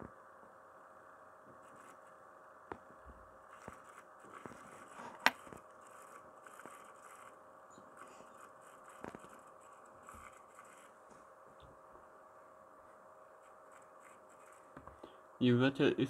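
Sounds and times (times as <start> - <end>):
hard drive humming: 0.0 - 16.0.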